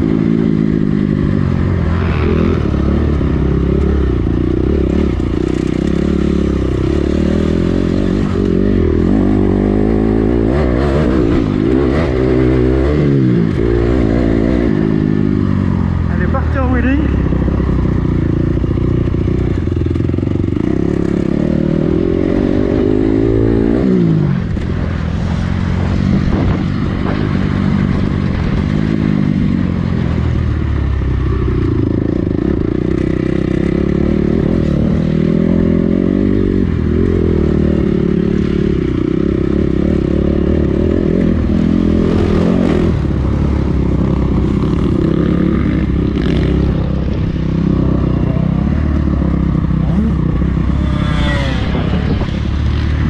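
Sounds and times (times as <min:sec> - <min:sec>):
motocross bike engine revving: 0:00.0 - 0:24.8, 0:31.5 - 0:53.0.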